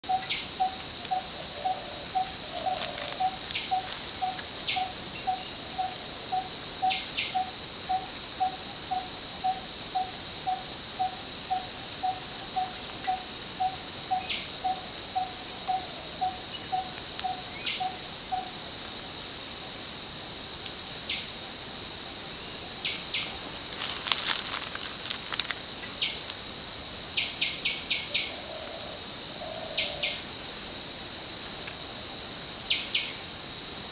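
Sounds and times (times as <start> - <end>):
high-pitched insect drone: 0.0 - 33.9.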